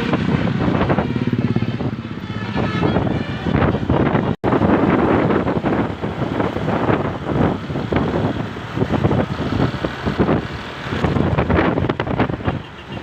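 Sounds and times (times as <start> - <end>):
car road and engine noise: 0.0 - 13.0
wind buffeting microphone: 0.0 - 13.0.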